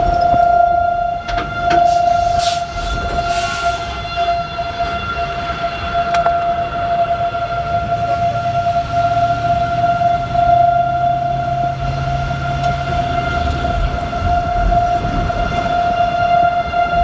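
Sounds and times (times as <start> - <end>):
tornado siren steady tone: 0.0 - 17.0.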